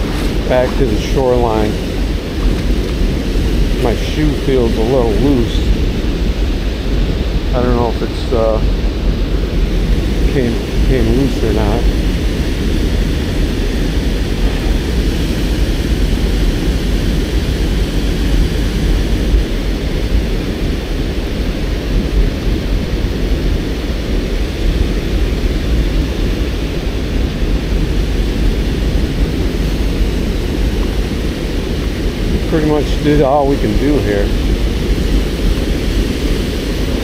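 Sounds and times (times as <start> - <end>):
river white water rushing: 0.0 - 37.0.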